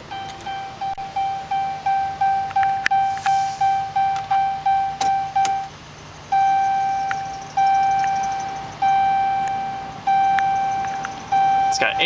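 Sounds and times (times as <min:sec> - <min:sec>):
car warning chime dings: 0:00.0 - 0:12.0.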